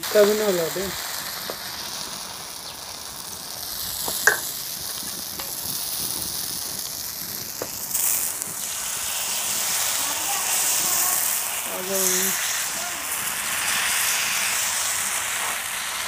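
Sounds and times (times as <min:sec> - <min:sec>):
batter sizzling on a griddle: 0:00.0 - 0:16.0.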